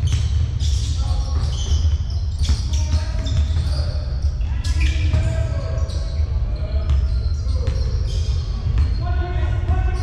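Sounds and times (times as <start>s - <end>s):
basketball bouncing on court: 0.0s - 10.0s.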